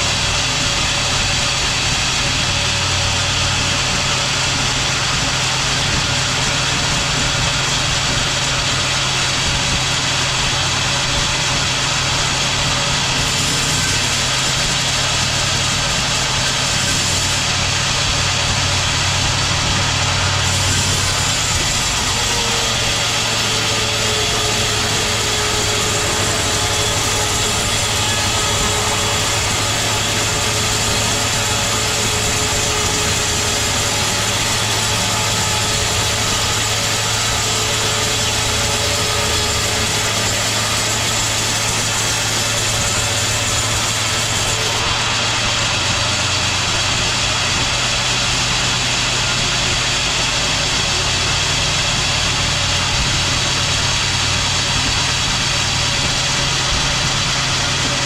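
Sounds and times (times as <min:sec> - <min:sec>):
faint steady saw whine: 0:00.0 - 0:58.0
sawmill machinery humming: 0:00.0 - 0:58.0.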